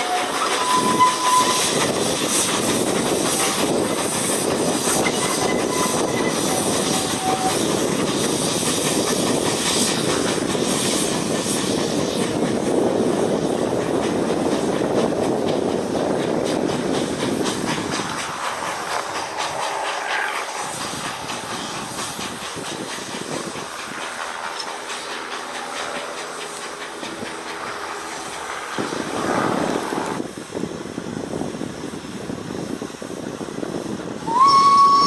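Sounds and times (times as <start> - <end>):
steam hissing: 0.0 - 35.0
train wheels clicking over rail joints: 0.0 - 35.0.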